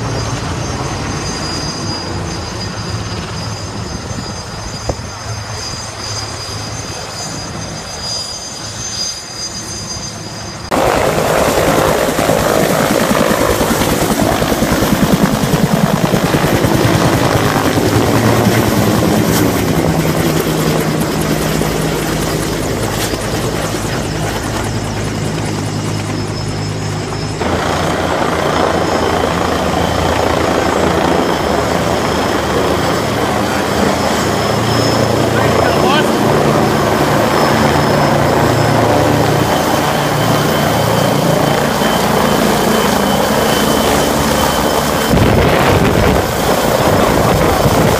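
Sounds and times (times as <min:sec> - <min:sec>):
helicopter rotor beating: 0:00.0 - 0:47.9
turbine whine: 0:00.0 - 0:47.9.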